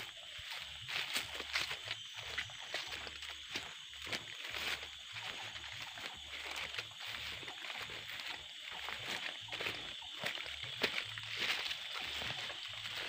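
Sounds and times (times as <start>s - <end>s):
footsteps: 0.0s - 13.0s
high insect hum: 0.0s - 13.0s
leaves and branches rustling: 0.0s - 13.0s.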